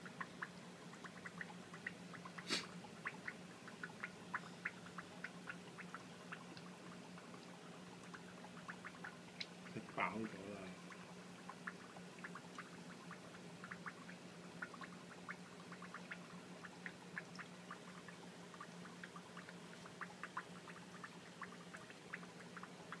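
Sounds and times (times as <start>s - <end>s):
aquarium filter hum: 0.0s - 23.0s
water drips and bubble pops: 0.0s - 23.0s.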